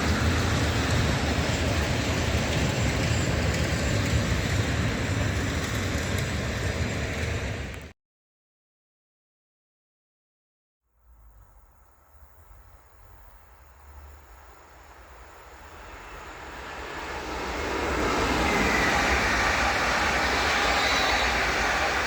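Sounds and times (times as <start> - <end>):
train passing: 0.0 - 7.9, 11.4 - 22.0.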